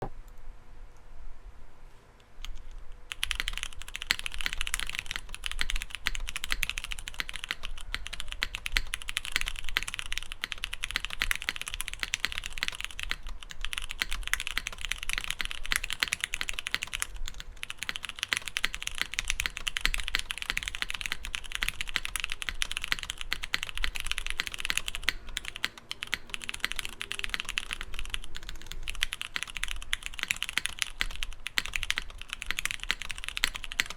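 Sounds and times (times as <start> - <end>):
mechanical keyboard typing: 2.4 - 33.9.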